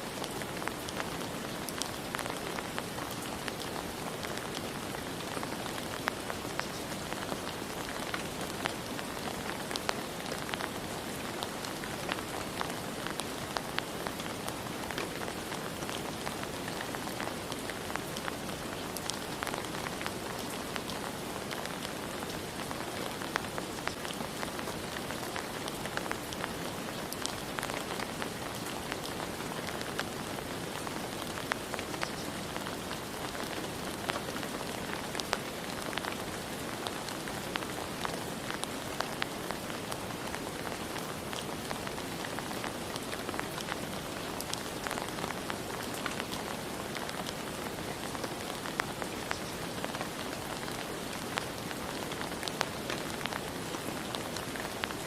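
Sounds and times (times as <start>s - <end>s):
steady rain hiss: 0.0s - 55.0s
raindrops ticking on a surface: 0.1s - 55.0s.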